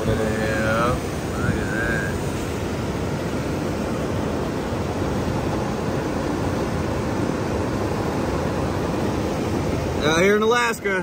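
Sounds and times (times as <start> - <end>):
fast river roaring: 0.0 - 11.0.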